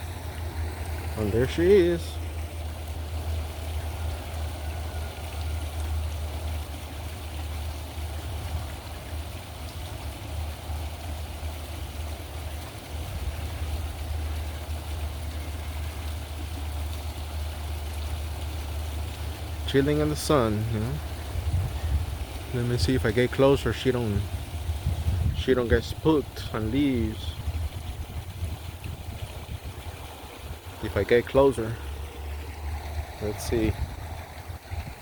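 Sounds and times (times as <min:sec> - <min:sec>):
constant low rumble: 0:00.0 - 0:35.0
fountain splashing and trickling: 0:00.0 - 0:35.0.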